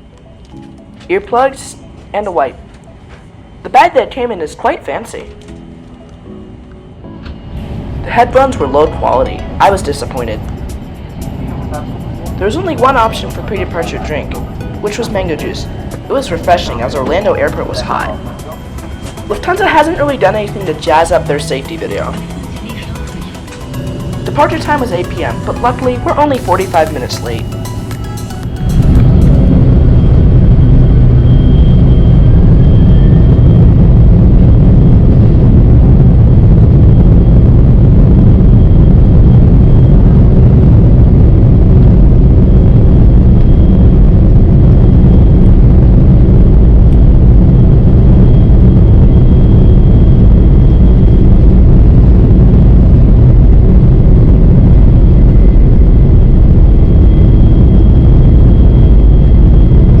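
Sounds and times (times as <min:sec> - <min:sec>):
jet engines rumbling in cabin: 0:00.0 - 1:00.0.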